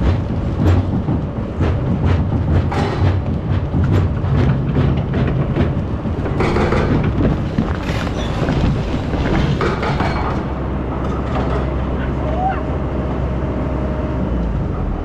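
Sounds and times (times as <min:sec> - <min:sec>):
metal clanks: 0:00.0 - 0:12.0
excavator diesel engine running: 0:00.0 - 0:15.0.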